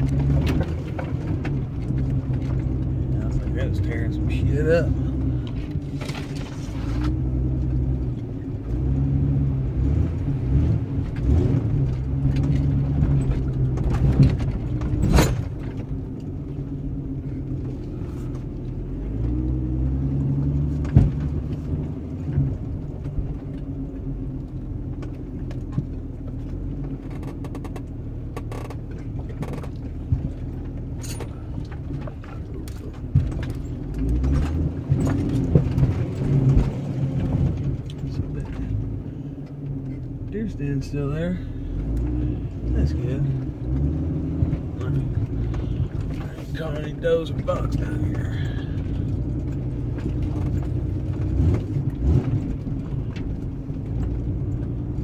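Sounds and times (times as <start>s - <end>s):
car engine running: 0.0s - 55.0s
vehicle knocks and clicks over bumps: 0.0s - 55.0s.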